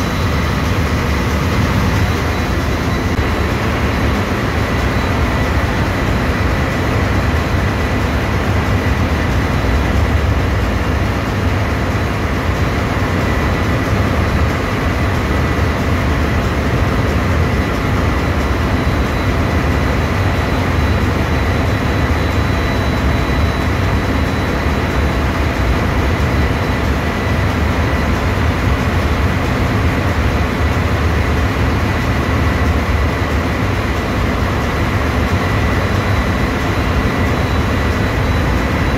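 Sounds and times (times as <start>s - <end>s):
engine room machinery drone: 0.0s - 38.9s
thin constant whine: 0.0s - 38.9s.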